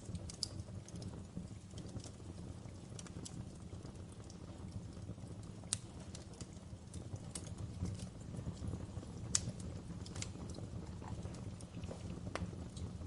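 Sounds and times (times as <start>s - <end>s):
fire popping and snapping: 0.0s - 13.0s
flames rumbling: 0.0s - 13.0s.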